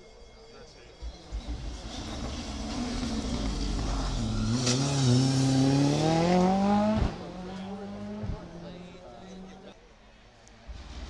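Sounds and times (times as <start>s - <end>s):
rally car engine: 0.7s - 11.0s.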